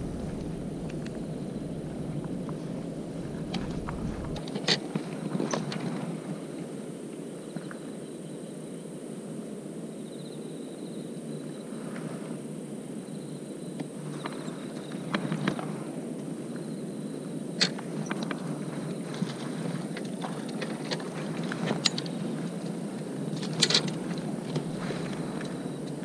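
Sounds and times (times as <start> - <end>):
insects trilling: 0.0 - 26.0
steady low hiss: 0.0 - 26.0.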